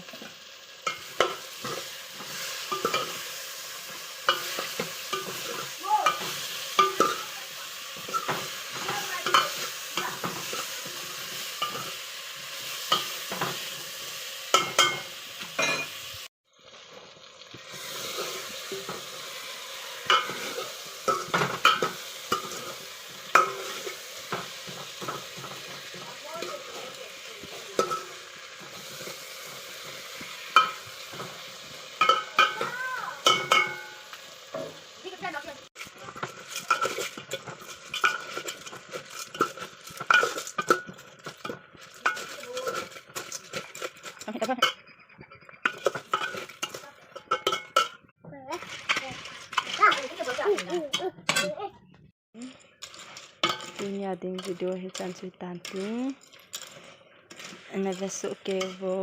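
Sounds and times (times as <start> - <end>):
snails sizzling in a pan: 0.0 - 51.1, 52.4 - 59.0
utensil clacking and scraping pan: 0.1 - 16.2, 17.6 - 51.7, 52.4 - 59.0.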